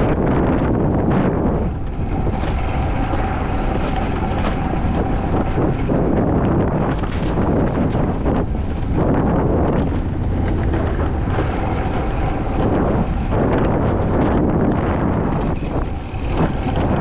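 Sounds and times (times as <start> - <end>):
coaster sled rumbling on track: 0.0 - 17.0
wind buffeting microphone: 0.0 - 17.0.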